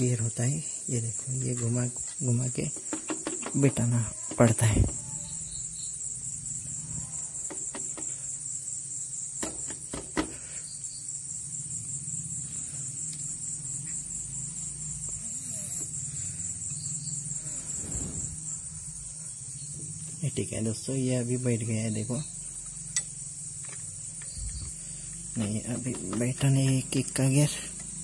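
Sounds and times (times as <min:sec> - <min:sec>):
insect chirring: 0:00.0 - 0:28.0.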